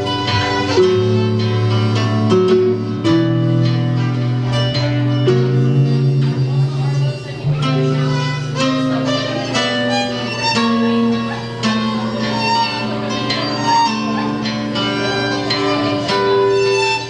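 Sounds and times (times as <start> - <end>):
guitar holding melody notes: 0.0 - 17.0
live band playing instrumental: 0.0 - 17.0.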